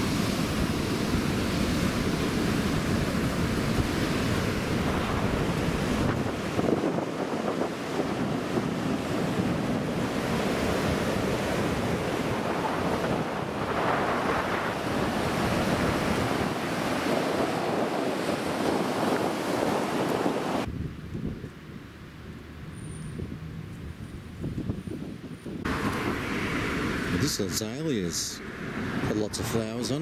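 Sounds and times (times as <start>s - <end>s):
ocean surf washing in: 0.0s - 20.7s, 25.6s - 30.0s
wind buffeting microphone: 0.0s - 30.0s.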